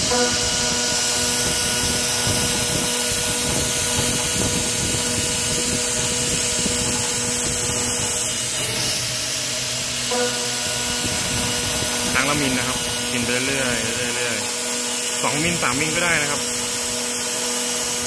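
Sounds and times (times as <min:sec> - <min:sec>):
router spindle milling metal: 0:00.0 - 0:18.0.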